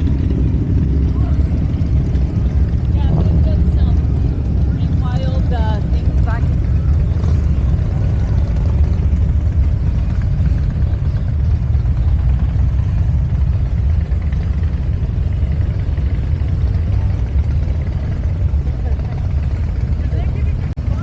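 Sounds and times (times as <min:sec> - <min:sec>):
motorcycle engines idling: 0:00.0 - 0:21.0.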